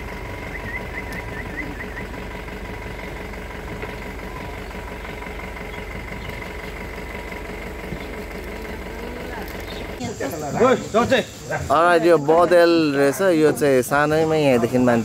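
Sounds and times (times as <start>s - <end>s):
jeep engine idling: 0.0s - 15.0s.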